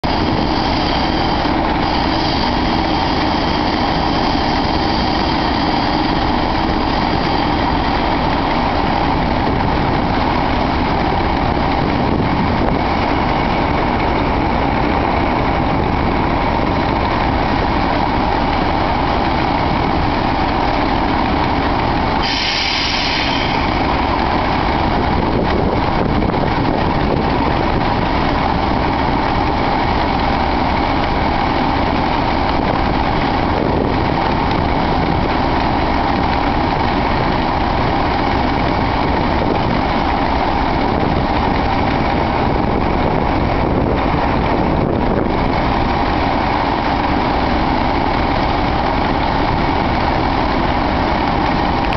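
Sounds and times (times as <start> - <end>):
wind buffeting microphone: 0.0 - 22.2, 23.5 - 51.9
diesel locomotives idling: 0.0 - 51.9.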